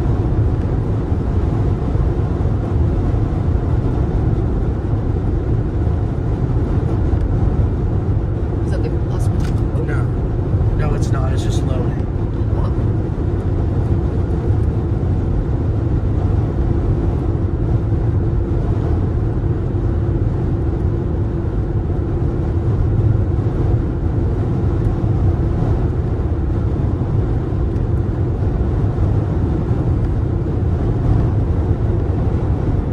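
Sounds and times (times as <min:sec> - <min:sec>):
car interior road rumble: 0:00.0 - 0:32.9.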